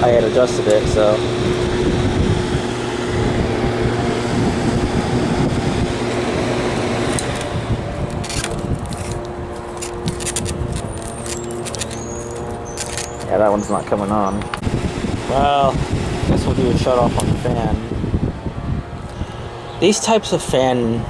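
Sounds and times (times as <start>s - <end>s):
air conditioner fan humming: 0.0s - 21.0s.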